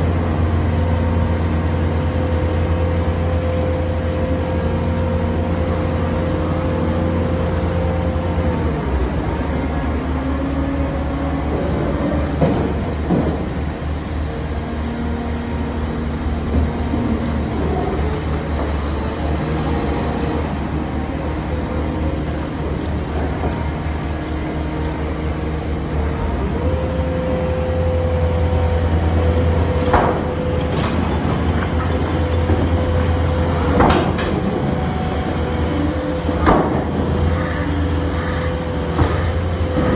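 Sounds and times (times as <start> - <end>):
drill rig diesel engine: 0.0 - 39.9.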